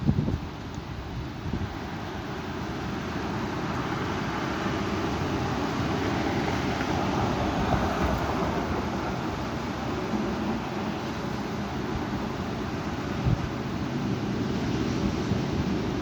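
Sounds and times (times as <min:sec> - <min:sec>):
strong wind gusting: 0:00.0 - 0:16.0.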